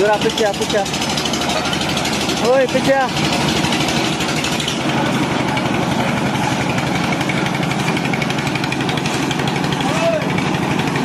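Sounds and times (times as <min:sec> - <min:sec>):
concrete mixer running: 0:00.0 - 0:11.0.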